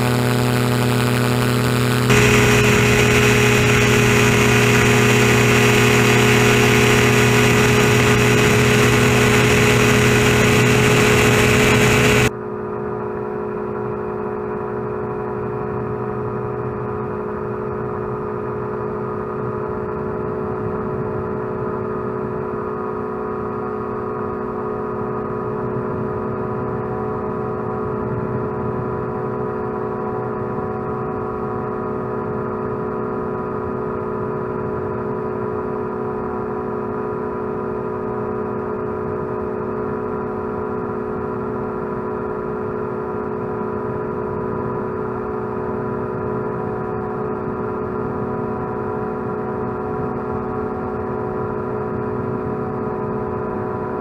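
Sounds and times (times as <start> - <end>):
aircraft engine running: 0.0 - 54.0.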